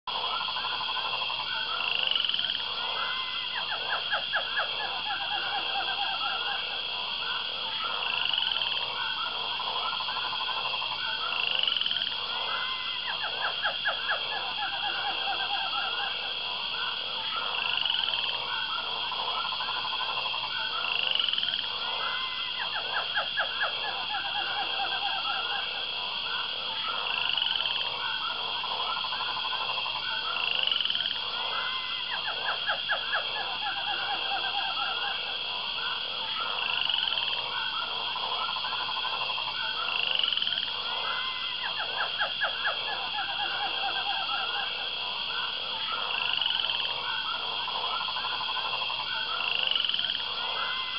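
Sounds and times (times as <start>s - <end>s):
frog croaking pulses: 0.1s - 50.9s
high insect trill: 0.1s - 50.9s.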